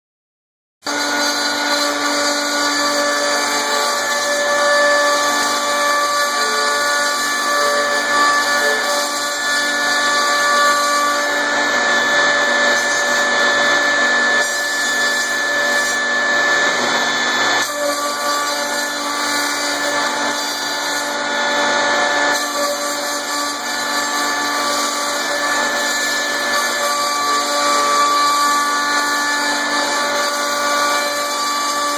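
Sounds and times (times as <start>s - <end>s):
cnc router whining: 0.8s - 31.9s.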